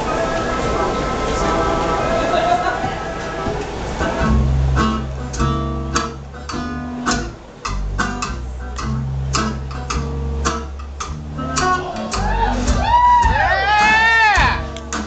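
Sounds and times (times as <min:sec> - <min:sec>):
held bass notes: 0:00.0 - 0:15.0.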